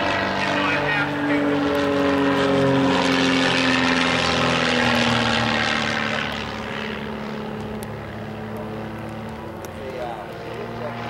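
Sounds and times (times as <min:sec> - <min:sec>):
propeller engine drone: 0:00.0 - 0:11.0.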